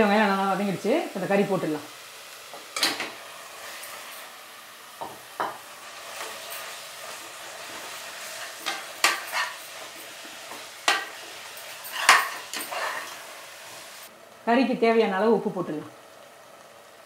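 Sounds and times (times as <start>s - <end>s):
meat sizzling: 0.0s - 17.0s.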